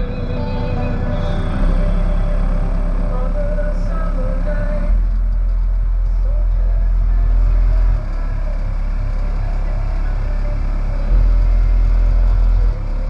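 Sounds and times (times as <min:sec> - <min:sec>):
bass-boosted song on car speakers: 0:00.0 - 0:13.0.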